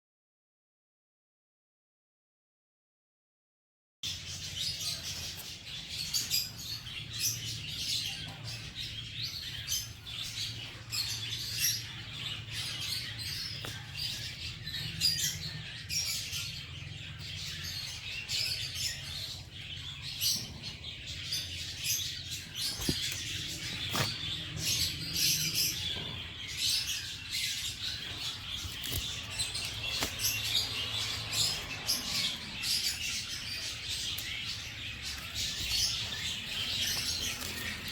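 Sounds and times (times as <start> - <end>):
small birds chirping: 4.0 - 37.9.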